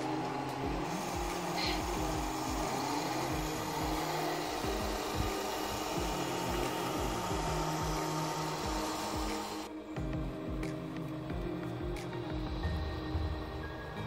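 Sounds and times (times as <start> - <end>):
music with a steady beat: 0.0 - 14.0
whirring grinding noise: 0.0 - 14.0.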